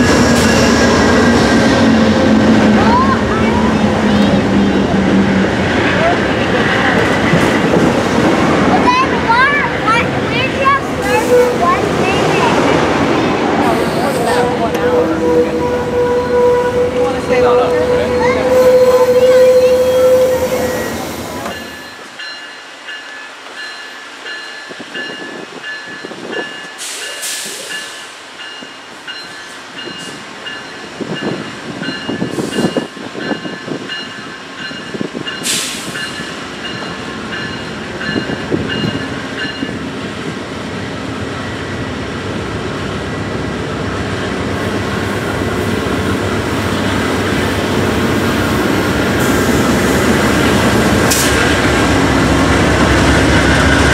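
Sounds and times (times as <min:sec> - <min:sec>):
train rumble: 0:00.0 - 0:53.9.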